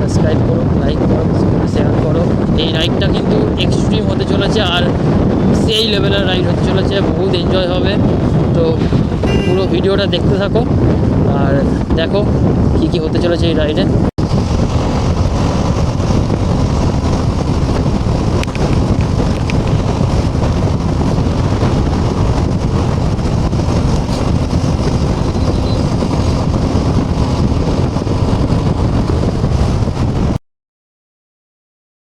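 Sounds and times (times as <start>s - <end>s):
wind rush: 0.0s - 30.4s
road noise: 3.5s - 12.8s, 14.0s - 30.4s.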